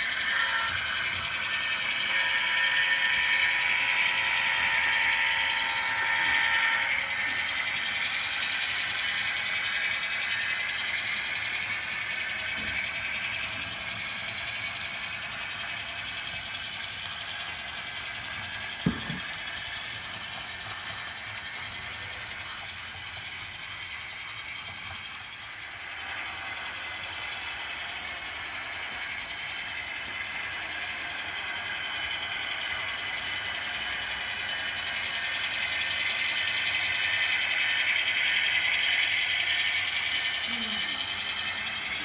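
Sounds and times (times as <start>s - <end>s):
model locomotive whirring: 0.0s - 42.0s
wheels rattling on rails: 0.0s - 42.0s.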